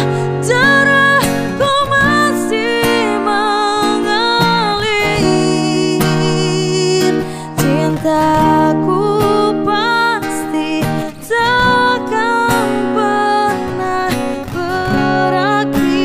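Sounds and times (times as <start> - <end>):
person singing: 0.0 - 16.0
plucked guitar: 0.0 - 16.0.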